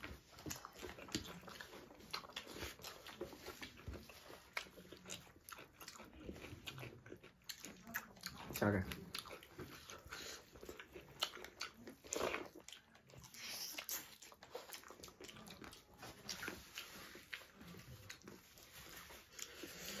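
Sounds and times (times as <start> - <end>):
chewing and lip-smacking: 0.0 - 20.0.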